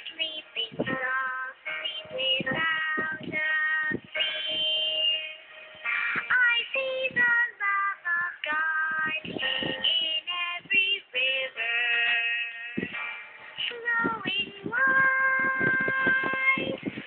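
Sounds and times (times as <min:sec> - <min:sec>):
song with high singing voice: 0:00.0 - 0:17.0.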